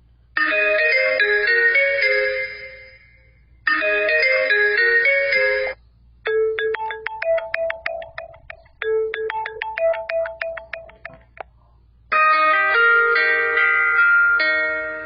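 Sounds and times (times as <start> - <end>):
melodic phone ringtone: 0.4 - 11.3, 12.1 - 15.0
ringtone of struck notes: 0.4 - 11.3, 12.1 - 15.0.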